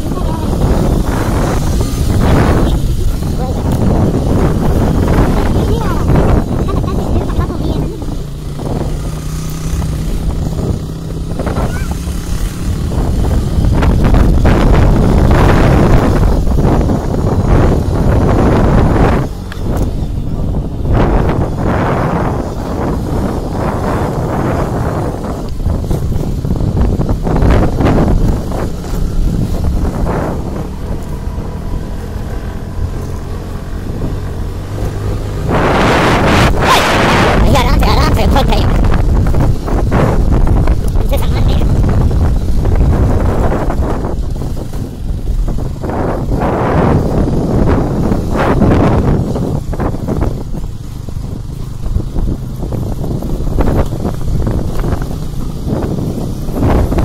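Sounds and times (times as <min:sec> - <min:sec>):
motorcycle engine running: 0:00.0 - 0:57.0
road noise: 0:00.0 - 0:57.0
wind rush and rumble: 0:00.0 - 0:57.0.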